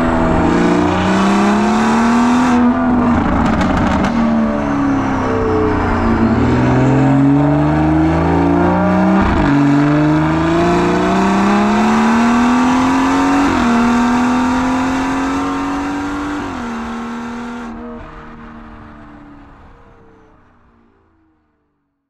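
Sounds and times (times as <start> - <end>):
car engine accelerating: 0.0 - 21.5.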